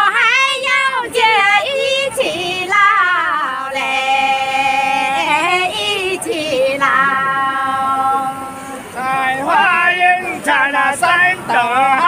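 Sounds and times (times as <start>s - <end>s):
woman singing unaccompanied folk song: 0.0s - 12.0s.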